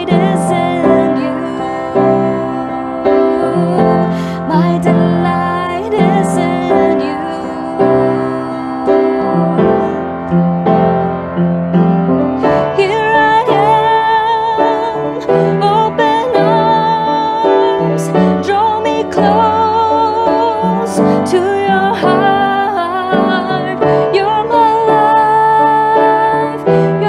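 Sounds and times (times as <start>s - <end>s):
woman singing: 0.0s - 10.5s, 12.4s - 27.0s
piano: 0.0s - 27.0s.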